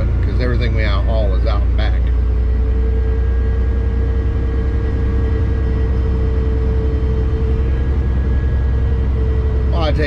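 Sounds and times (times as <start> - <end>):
diesel engine drone: 0.0 - 10.0
road noise: 0.0 - 10.0
steady mid-pitched hum: 0.0 - 10.0.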